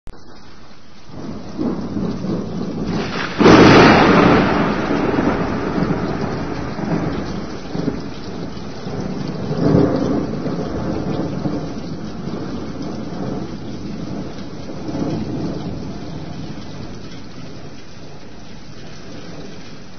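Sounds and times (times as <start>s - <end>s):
steady rain: 0.1s - 19.9s
thunder rumbling: 1.1s - 19.9s.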